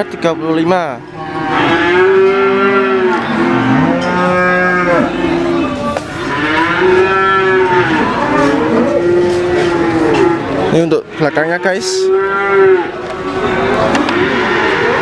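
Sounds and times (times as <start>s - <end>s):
cattle mooing: 0.0s - 15.0s.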